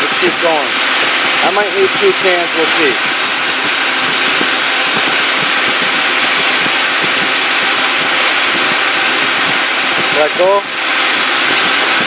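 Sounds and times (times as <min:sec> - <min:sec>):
car engine idling: 0:00.0 - 0:12.0
cooling fan whooshing: 0:00.0 - 0:12.0.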